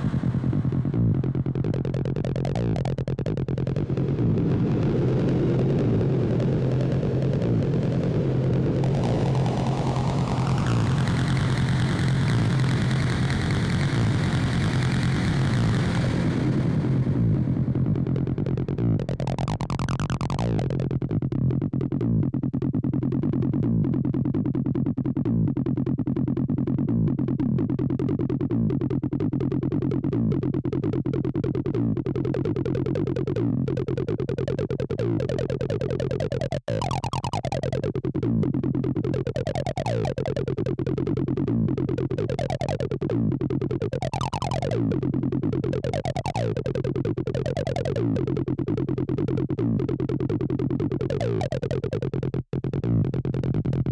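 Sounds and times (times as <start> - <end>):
acid electronic music: 0.0 - 4.5, 5.7 - 53.9.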